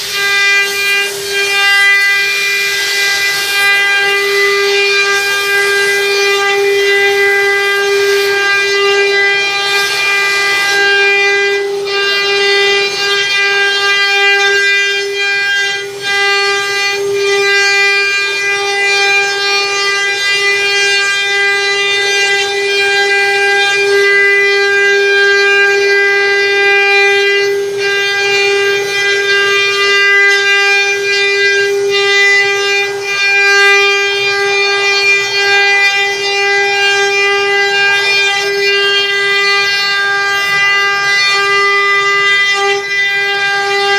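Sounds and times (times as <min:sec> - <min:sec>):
router spindles whining: 0:00.0 - 0:43.9
wood cutting hiss: 0:00.0 - 0:43.9.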